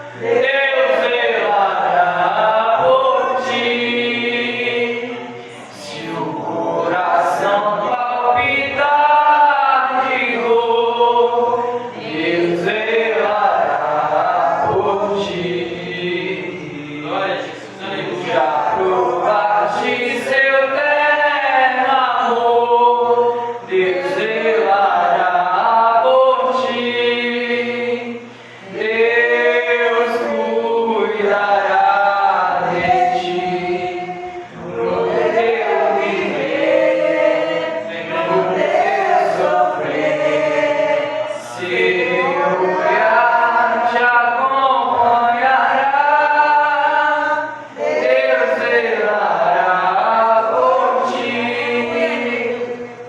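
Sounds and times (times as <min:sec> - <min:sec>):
people singing a hymn: 0:00.0 - 0:53.0.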